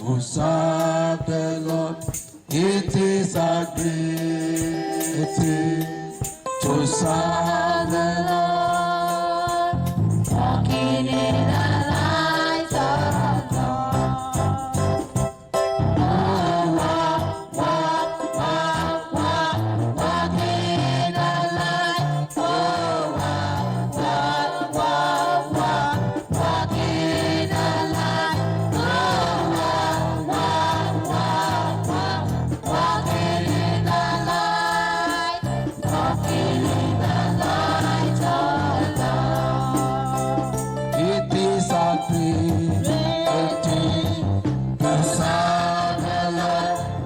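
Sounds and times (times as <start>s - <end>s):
choir and congregation singing: 0.0s - 44.2s, 44.8s - 47.0s
instrumental backing: 0.0s - 47.0s.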